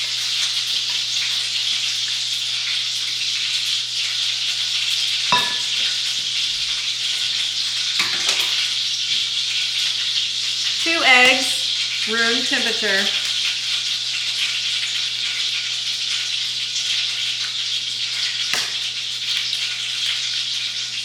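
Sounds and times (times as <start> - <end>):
butter sizzling in a pan: 0.0 - 21.0.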